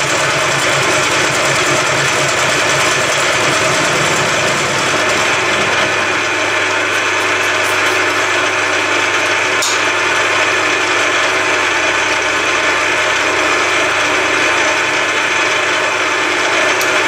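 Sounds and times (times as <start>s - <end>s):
milling machine cutting metal: 0.0s - 17.0s.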